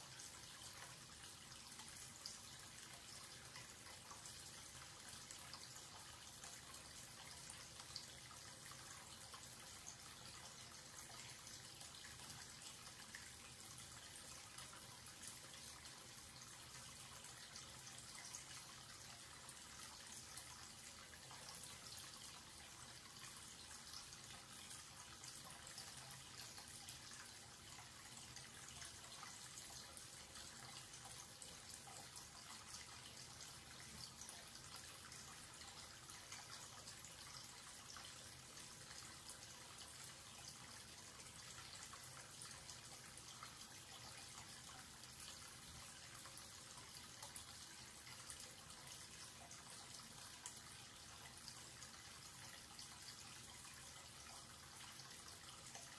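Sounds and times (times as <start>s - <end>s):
tap water running into basin: 0.0s - 55.9s.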